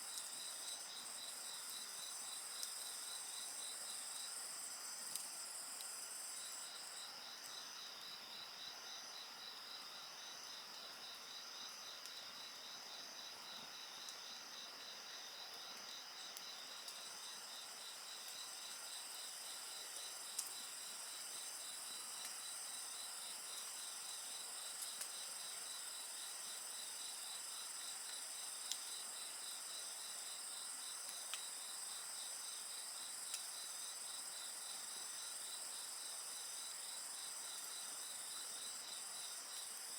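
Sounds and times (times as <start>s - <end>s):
insects chirping: 0.1s - 39.9s.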